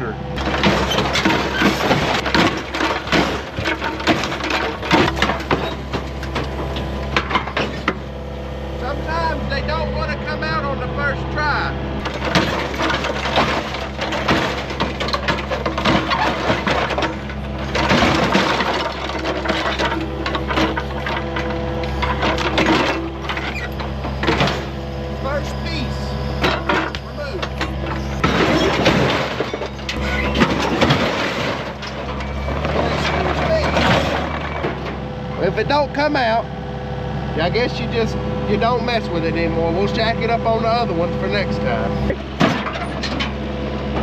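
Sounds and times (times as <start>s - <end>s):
metal crunching and banging: 0.0s - 36.5s, 37.4s - 44.0s
excavator engine running: 0.0s - 44.0s.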